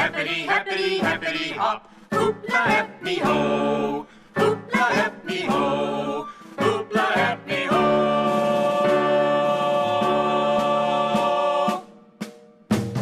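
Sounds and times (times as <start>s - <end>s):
children's song: 0.0s - 12.0s.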